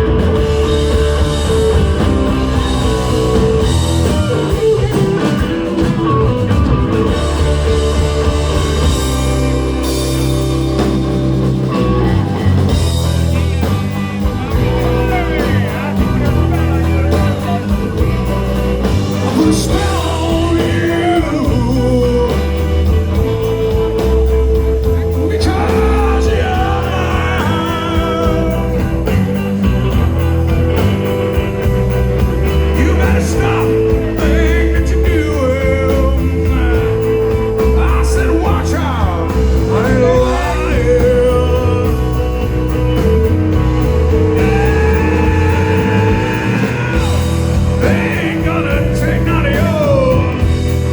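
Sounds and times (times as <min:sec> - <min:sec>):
rock music with singing: 0:00.0 - 0:50.9.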